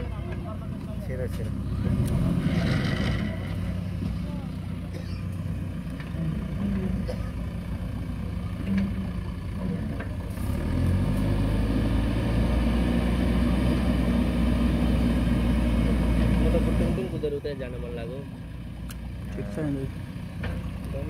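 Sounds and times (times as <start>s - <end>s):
diesel engines of earthmoving machines: 0.0s - 21.0s.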